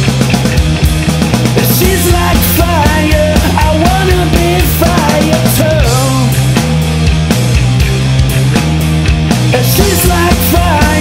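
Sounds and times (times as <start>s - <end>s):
drums and bass groove: 0.0s - 11.0s.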